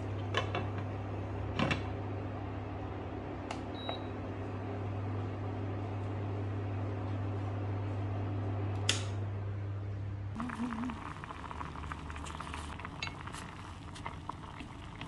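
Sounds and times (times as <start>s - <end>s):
low electric hum: 0.0s - 15.0s.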